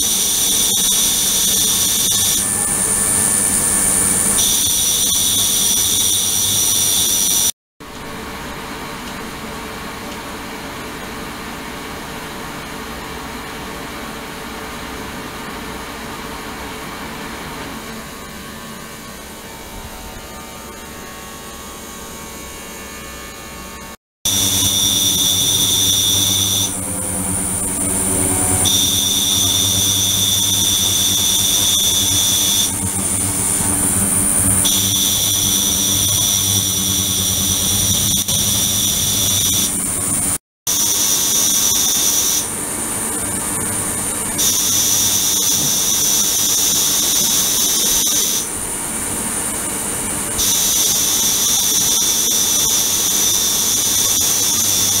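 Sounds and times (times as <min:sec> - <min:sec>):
high-pitched multi-tone whine: 0:00.0 - 0:07.6, 0:17.8 - 0:48.8, 0:49.4 - 0:55.0.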